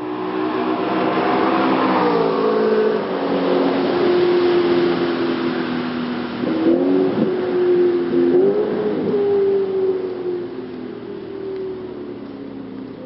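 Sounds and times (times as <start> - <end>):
loud car engine at speed: 0.0 - 13.0.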